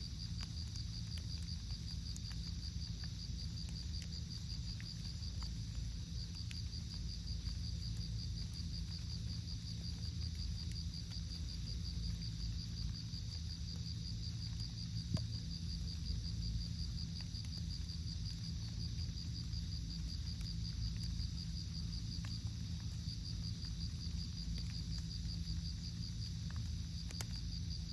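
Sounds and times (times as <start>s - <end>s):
cricket chirping: 0.0s - 27.9s
low background rumble: 0.0s - 27.9s.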